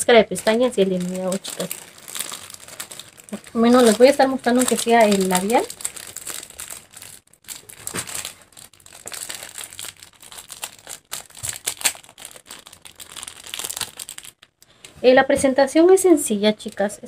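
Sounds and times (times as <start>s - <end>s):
plastic wrapper crinkling: 0.0s - 14.7s, 16.3s - 17.0s.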